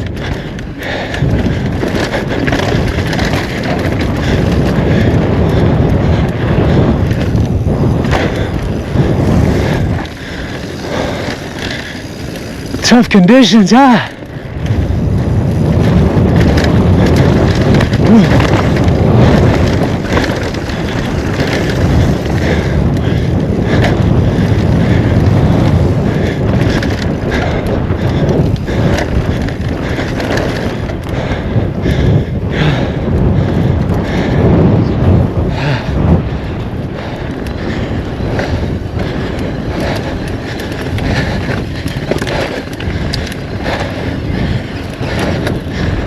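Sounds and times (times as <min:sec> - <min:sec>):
bike knocks and rattles: 0:00.0 - 0:12.9, 0:14.3 - 0:46.0
bike tyre rumble over dirt: 0:00.0 - 0:46.0
wind buffeting microphone: 0:00.0 - 0:46.0.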